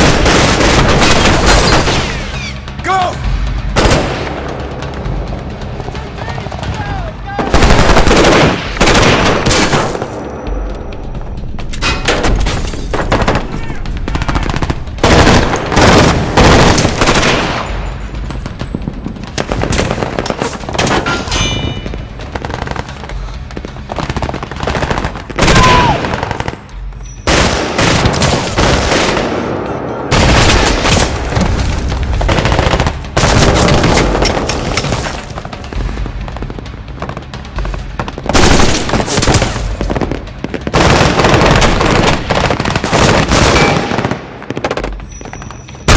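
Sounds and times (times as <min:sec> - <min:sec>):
background music: 0:00.0 - 0:45.9.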